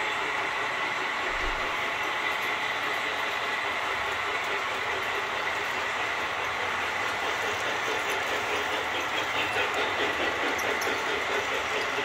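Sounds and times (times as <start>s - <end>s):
model train wheels rumbling on track: 0.0s - 12.0s.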